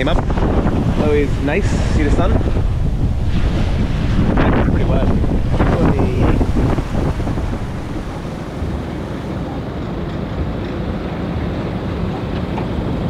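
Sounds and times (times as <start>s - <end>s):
water washing: 0.0s - 13.0s
wind buffeting microphone: 0.0s - 13.0s.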